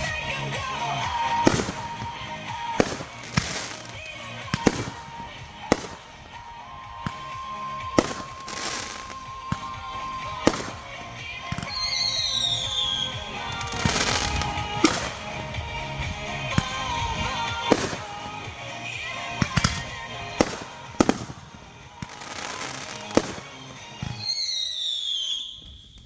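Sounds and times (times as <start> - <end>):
music playing: 0.0 - 25.5
crackling hiss: 0.0 - 26.0
firework bangs: 0.0 - 26.0.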